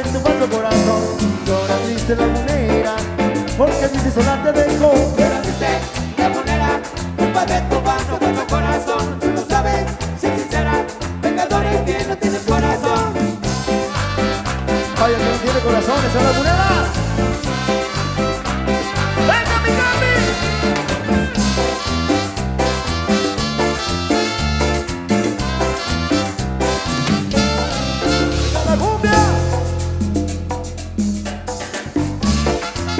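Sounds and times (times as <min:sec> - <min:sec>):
band playing cumbia music: 0:00.0 - 0:32.9.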